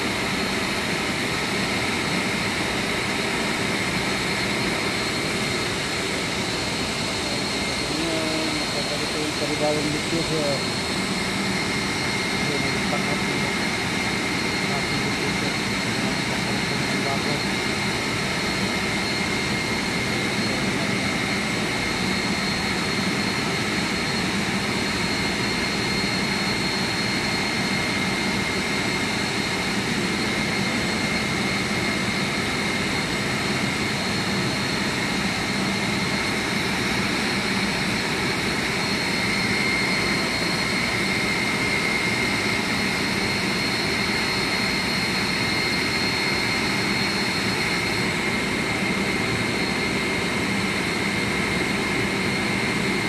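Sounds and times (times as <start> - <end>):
high whine: 0.0 - 53.0
industrial machinery drone: 0.0 - 53.0.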